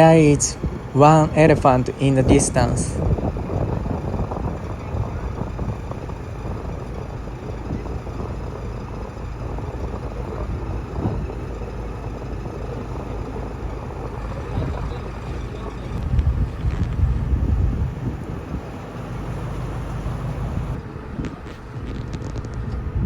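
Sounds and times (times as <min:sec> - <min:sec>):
boat engine running: 0:00.0 - 0:23.0
wind buffeting microphone: 0:00.0 - 0:23.0.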